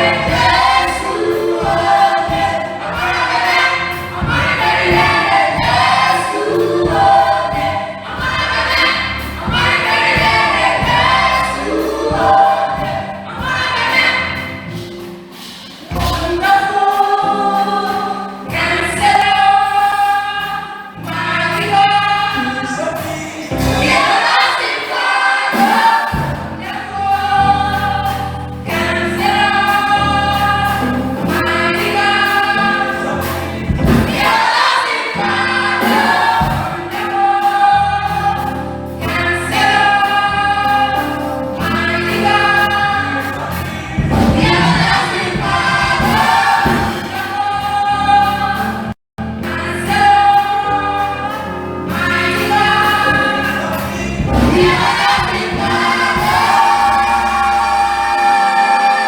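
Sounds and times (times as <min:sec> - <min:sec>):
choir singing gospel: 0:00.0 - 0:59.0
keyboard and bass backing: 0:00.0 - 0:59.0.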